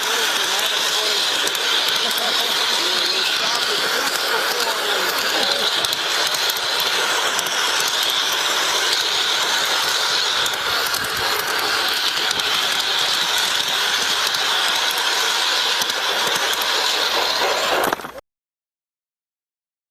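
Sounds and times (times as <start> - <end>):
model train whirring and rattling: 0.0 - 18.2.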